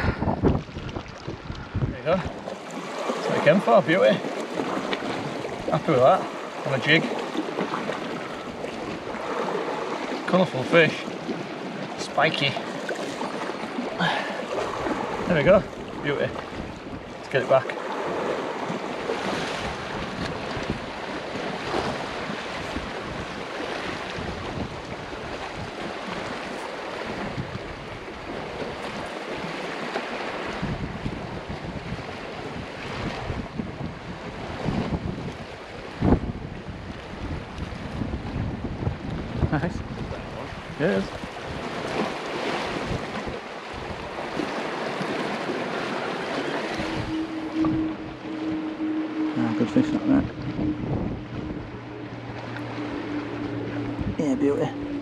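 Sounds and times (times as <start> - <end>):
sea washing against rocks: 0.0 - 55.0
wind buffeting microphone: 0.0 - 55.0.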